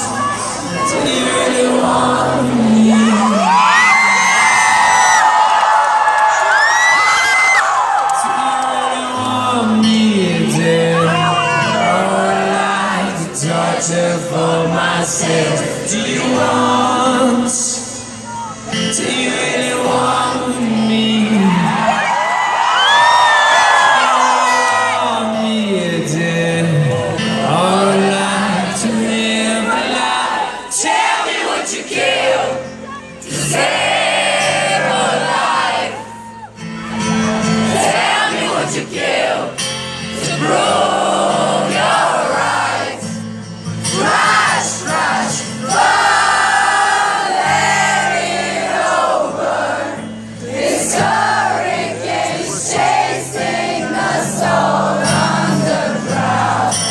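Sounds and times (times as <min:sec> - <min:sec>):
crowd singing along: 0:00.0 - 0:56.9
live acoustic rock song: 0:07.9 - 0:22.7, 0:23.5 - 0:56.9.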